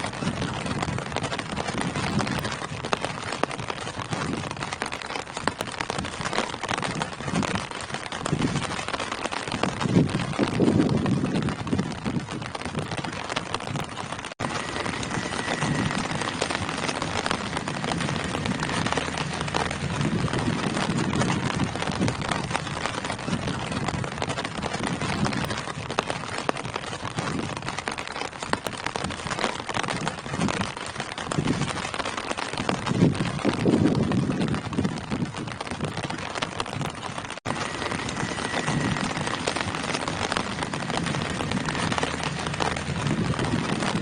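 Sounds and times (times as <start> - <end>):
rain on tree leaves: 0.0 - 44.0.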